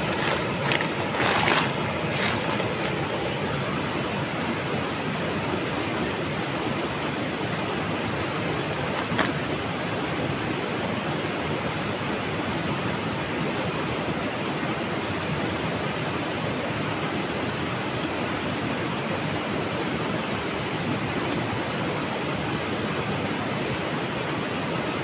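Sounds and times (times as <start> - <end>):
river flowing over stones: 0.0 - 25.0.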